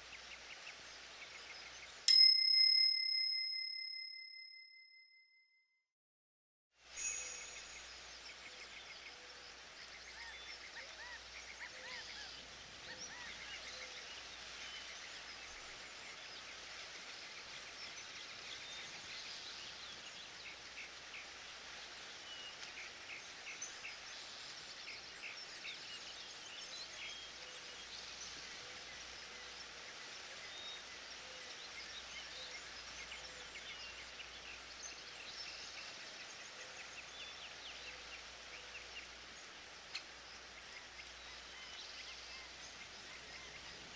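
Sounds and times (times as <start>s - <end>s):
faint steady hiss: 0.0s - 2.5s, 6.8s - 43.9s.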